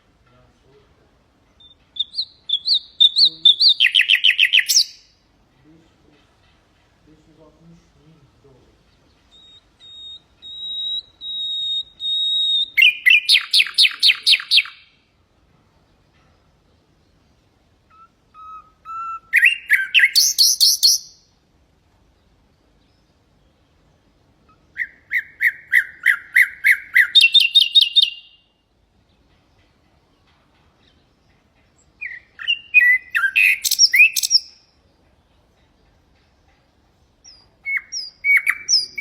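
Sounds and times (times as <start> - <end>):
nightingale singing: 0.0 - 39.0.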